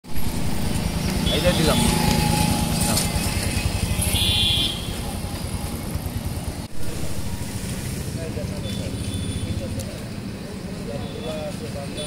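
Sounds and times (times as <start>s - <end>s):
street traffic: 0.0s - 12.0s
vehicle engine running: 0.2s - 10.9s.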